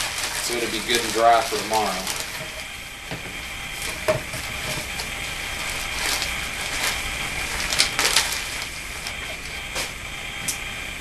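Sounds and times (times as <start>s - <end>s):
wet paper rubbing on tabletop: 0.0s - 9.8s
paper crackles: 0.0s - 10.0s.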